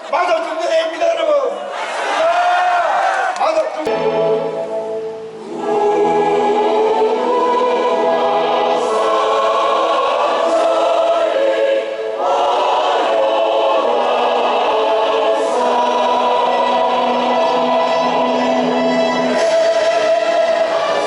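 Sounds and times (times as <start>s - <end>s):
choir singing long notes: 3.9s - 21.0s.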